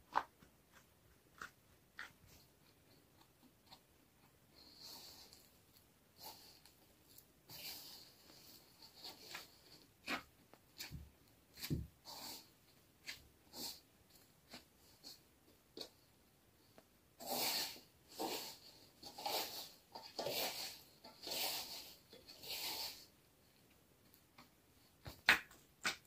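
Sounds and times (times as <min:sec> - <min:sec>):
dough squelching in kneading: 0:00.0 - 0:26.0.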